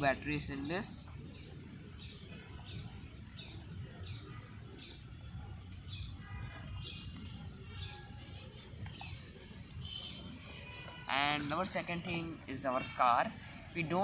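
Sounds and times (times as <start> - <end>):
bird chirping: 0.4 - 13.0.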